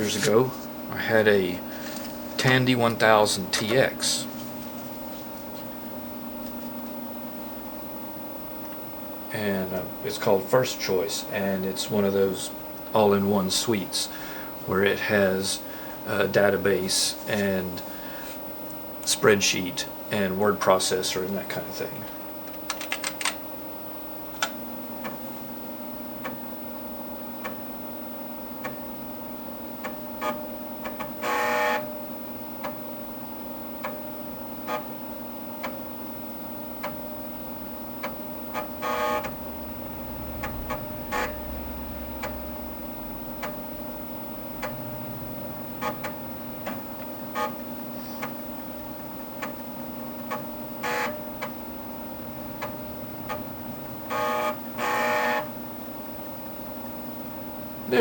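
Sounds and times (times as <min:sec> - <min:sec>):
computer fan hum: 0:00.0 - 0:58.0.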